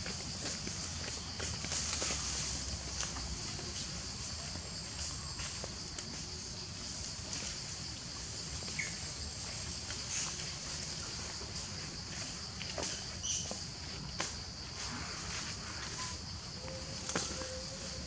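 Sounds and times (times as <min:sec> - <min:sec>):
faint ticks and rustles: 0:00.0 - 0:18.0.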